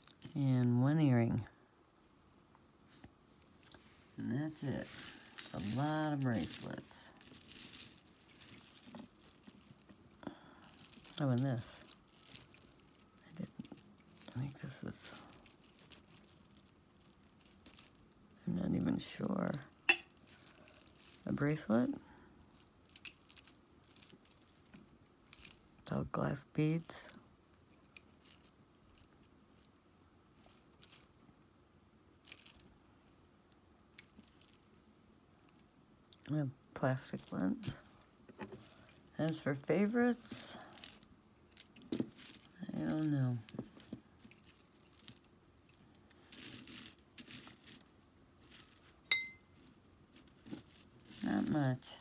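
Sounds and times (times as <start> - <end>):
jewelry rustling: 1.9 - 52.0
jewelry clinking: 3.4 - 31.3, 32.2 - 52.0
glass beads clicking: 4.5 - 26.0, 26.6 - 31.2, 32.2 - 36.4, 37.0 - 52.0.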